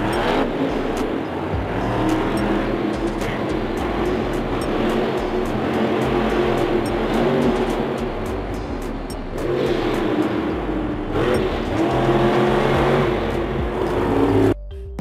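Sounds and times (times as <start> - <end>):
truck engine revving: 0.0 - 14.6.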